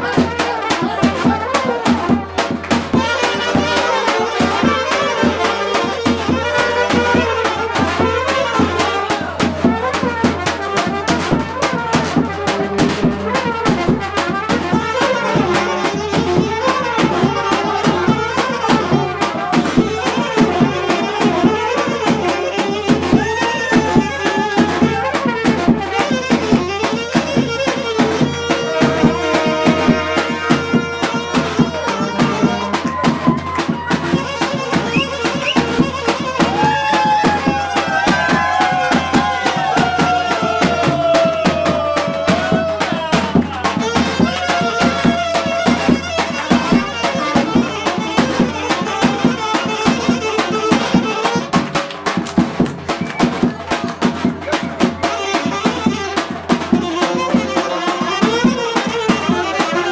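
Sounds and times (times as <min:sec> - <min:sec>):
brass band dance music: 0:00.0 - 0:59.9
driving drum beat: 0:00.0 - 0:59.9
trumpets and saxophone melody: 0:00.0 - 0:59.9.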